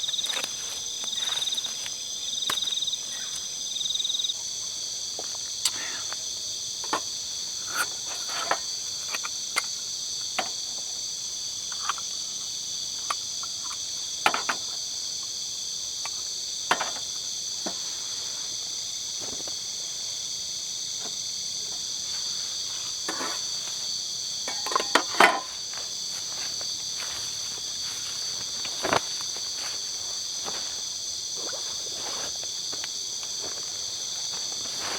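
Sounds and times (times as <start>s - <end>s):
night insects chorus: 0.0s - 34.9s.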